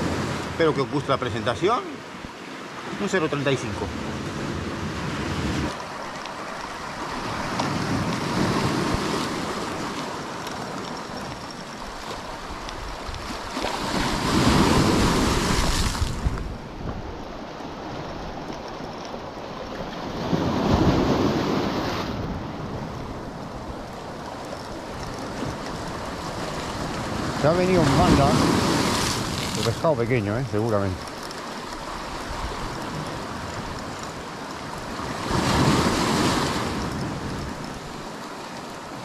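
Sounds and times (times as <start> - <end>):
sea waves breaking on shore: 0.0 - 39.0
wind buffeting microphone: 6.5 - 38.2.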